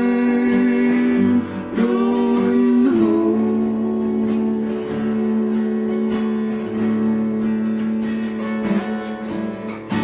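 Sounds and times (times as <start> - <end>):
acoustic guitars playing: 0.0 - 10.0.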